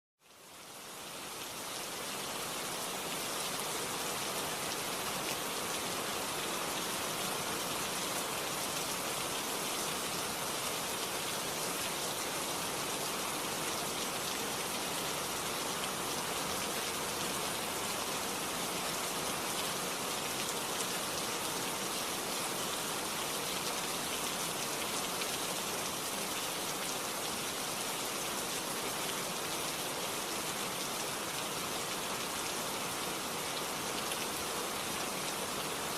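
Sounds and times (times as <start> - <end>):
steady rain falling: 0.2 - 35.9.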